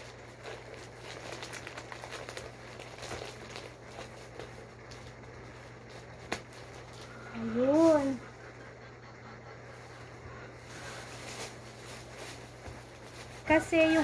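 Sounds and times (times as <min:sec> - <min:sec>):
plastic crinkling: 0:00.0 - 0:08.2, 0:10.6 - 0:14.0.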